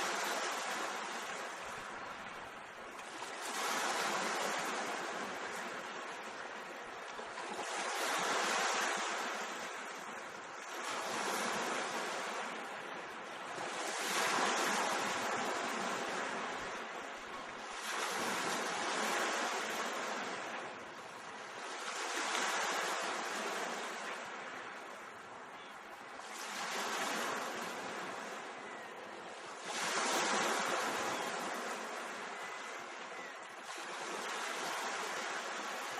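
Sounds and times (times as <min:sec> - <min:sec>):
waves breaking and washing ashore: 0:00.0 - 0:35.9.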